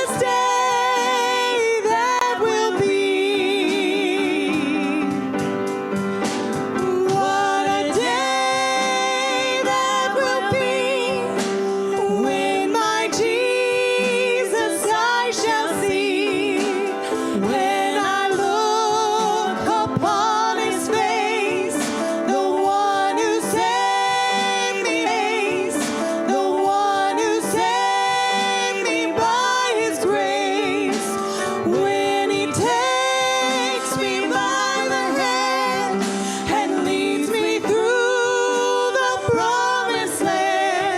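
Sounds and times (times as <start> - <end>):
hymn singing with vibrato: 0.0 - 40.9.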